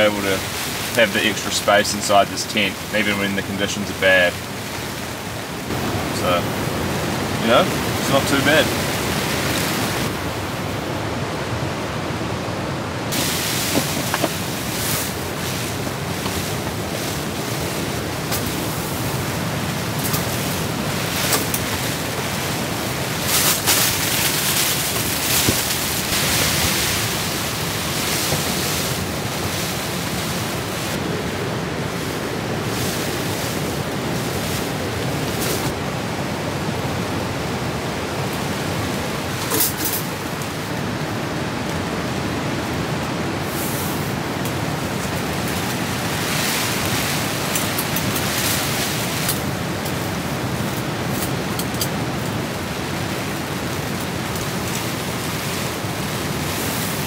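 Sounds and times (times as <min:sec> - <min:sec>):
gusting wind: 0:00.0 - 0:57.0
heavy rain on tent: 0:00.0 - 0:57.0.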